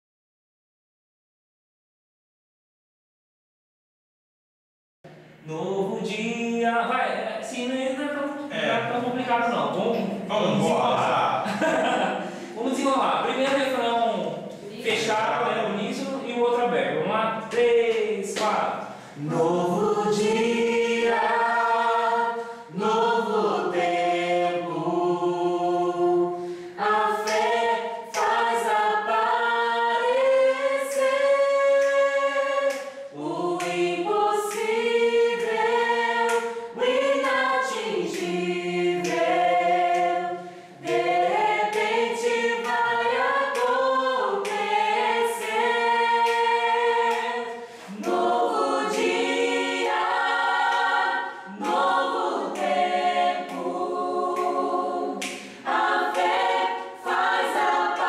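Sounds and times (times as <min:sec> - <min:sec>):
group singing a cappella gospel: 0:05.1 - 0:58.0.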